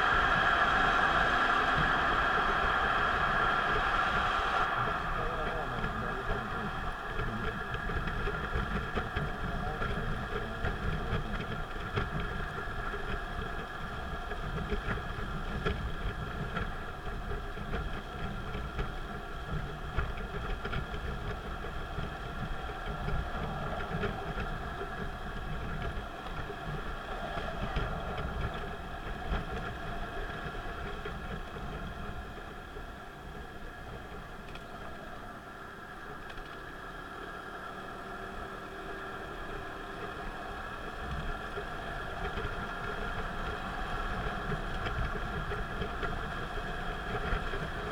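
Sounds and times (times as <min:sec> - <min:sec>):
car engine and tyre rumble: 0:00.0 - 0:47.9
faint steady hum: 0:00.0 - 0:47.9.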